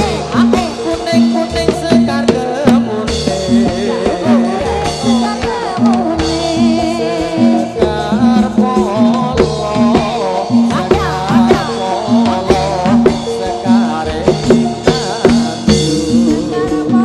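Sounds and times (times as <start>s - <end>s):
drum strokes: 0.0s - 17.0s
wavering gamelan melody: 0.0s - 17.0s.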